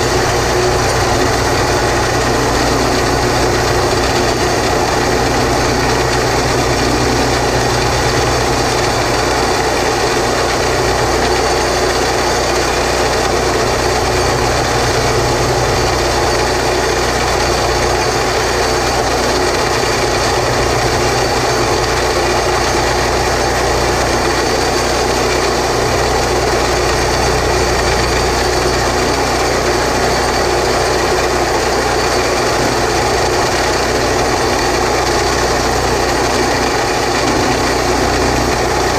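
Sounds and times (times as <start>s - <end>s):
boring rig engine running: 0.0s - 38.9s.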